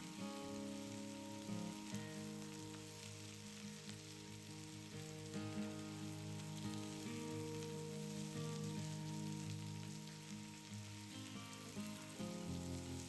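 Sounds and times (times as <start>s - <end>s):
food sizzling in frying pan: 0.0s - 13.0s
soft background music: 0.0s - 13.0s.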